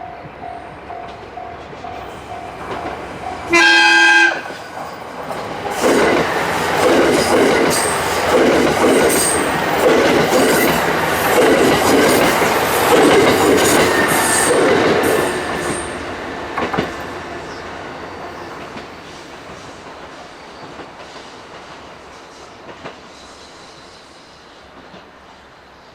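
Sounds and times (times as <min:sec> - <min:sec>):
diesel train passing: 0:00.0 - 0:25.9.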